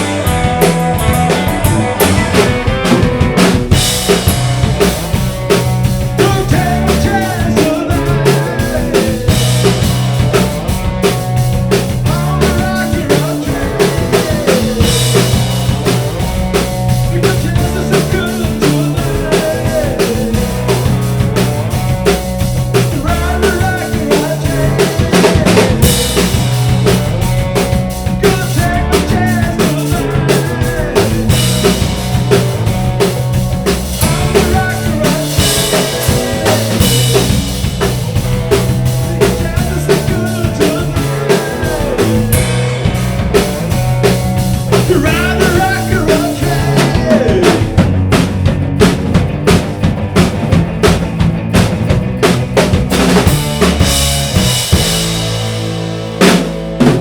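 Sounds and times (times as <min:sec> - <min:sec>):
drum kit beat: 0:00.0 - 0:57.0
instrumental rock music: 0:00.0 - 0:57.0.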